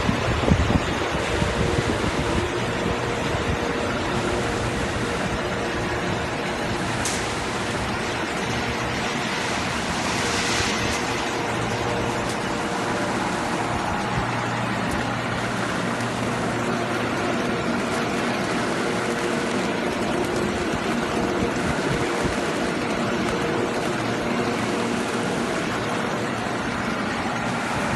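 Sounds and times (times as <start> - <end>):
low motor hum: 0.0 - 27.9
water rushing and splashing: 0.0 - 27.9.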